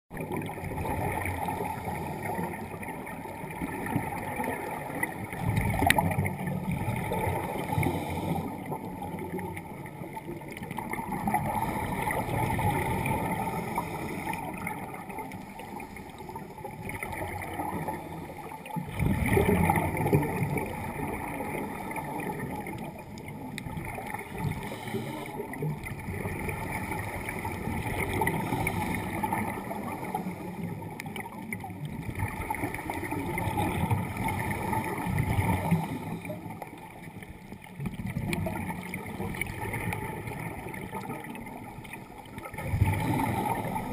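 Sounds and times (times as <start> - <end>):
underwater bubbles from exhaled air: 0.1 - 43.9.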